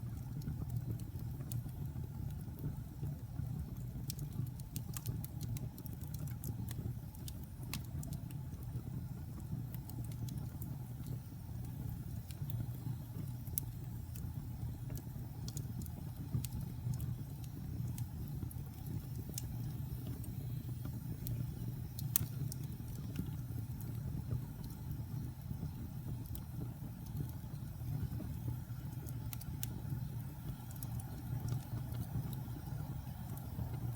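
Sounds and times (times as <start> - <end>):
logs crackling and popping: 0.0 - 33.9
low rumble of flames: 0.0 - 33.9.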